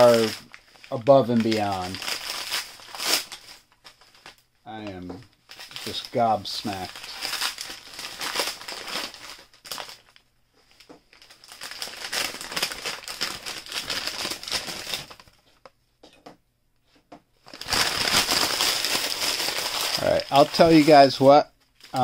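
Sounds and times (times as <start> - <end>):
paper crumpling and tearing: 0.0 - 4.4, 5.5 - 10.2, 11.1 - 15.4, 17.5 - 22.0.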